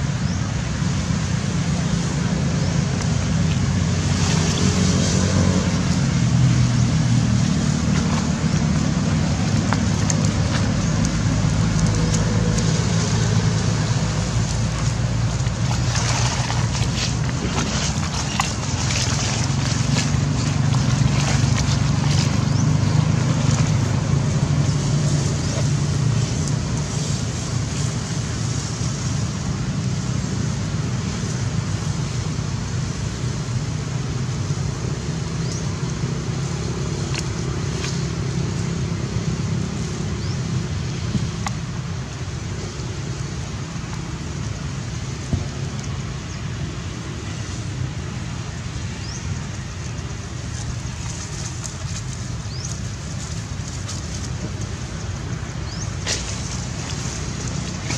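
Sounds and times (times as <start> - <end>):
low rumble of motor traffic: 0.0 - 57.9.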